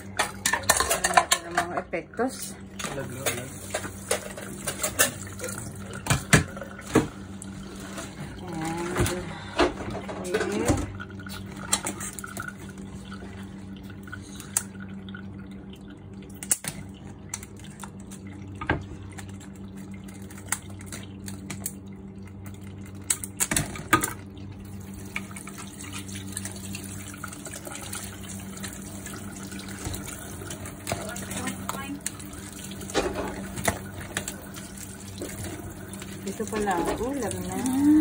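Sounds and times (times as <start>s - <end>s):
tap water running into sink: 2.8s - 9.2s, 9.9s - 38.0s.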